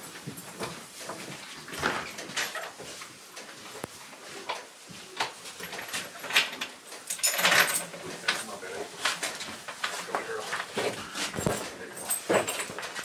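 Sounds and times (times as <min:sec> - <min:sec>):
hooves and boots on wet floor: 0:00.0 - 0:07.2, 0:07.8 - 0:13.0.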